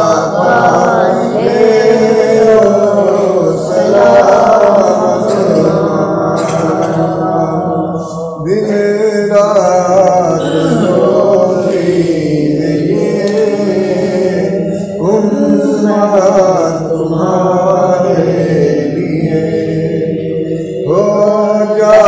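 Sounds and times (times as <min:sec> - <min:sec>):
man chanting: 0:00.0 - 0:22.0.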